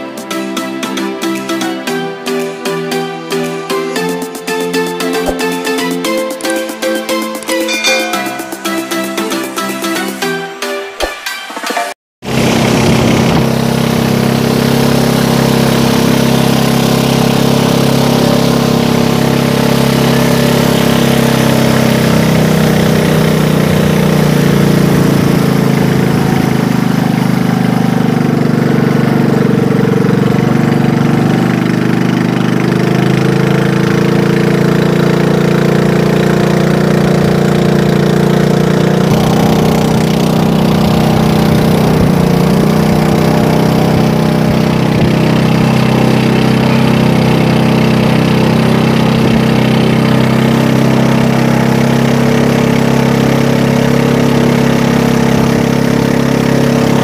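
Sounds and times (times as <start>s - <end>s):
boat engine droning: 3.2s - 10.1s, 12.2s - 57.0s.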